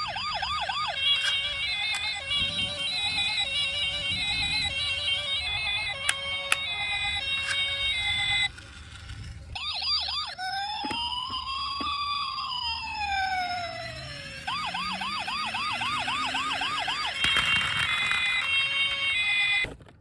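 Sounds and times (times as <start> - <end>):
toy siren yelping and wailing: 0.0 - 19.7.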